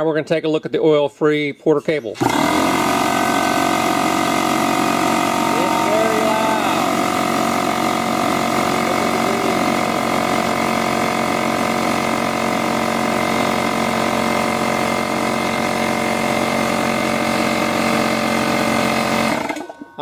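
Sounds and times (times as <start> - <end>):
air compressor running: 2.2 - 20.0.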